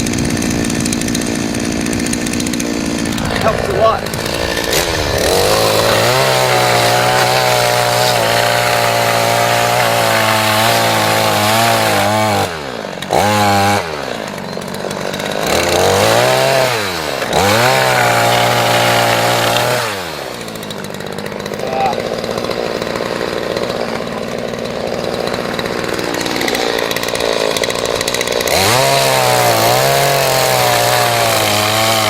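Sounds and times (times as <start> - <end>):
chainsaw cutting firewood: 0.0 - 32.0.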